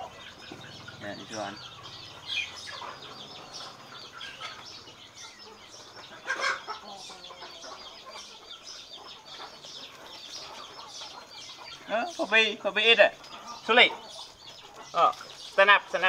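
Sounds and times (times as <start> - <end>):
birds clucking: 0.0 - 16.0.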